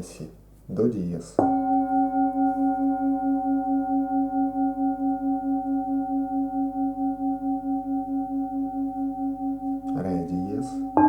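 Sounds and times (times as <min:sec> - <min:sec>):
singing bowl ringing: 0:01.4 - 0:11.0.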